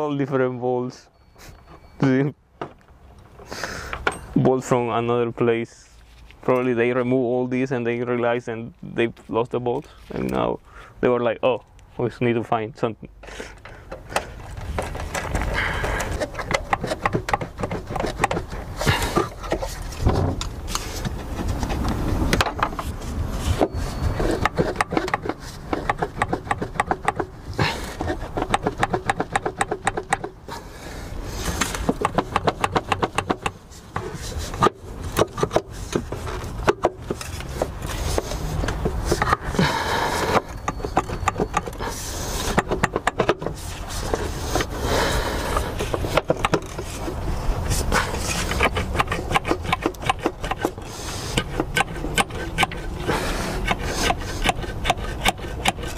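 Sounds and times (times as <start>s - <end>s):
hand tools on metal parts: 0.0s - 8.1s, 13.2s - 55.9s.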